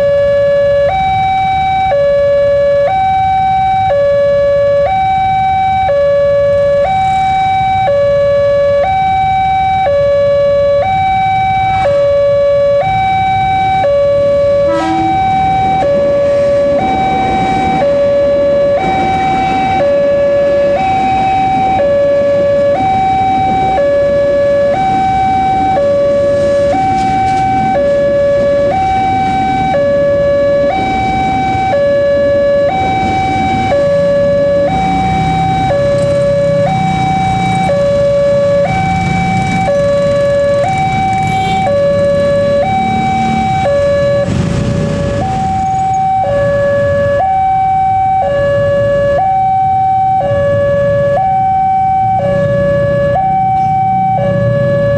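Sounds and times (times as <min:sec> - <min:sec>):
two-tone crossing alarm: 0:00.0 - 0:54.9
passing train rumble: 0:06.4 - 0:07.7, 0:11.2 - 0:54.9.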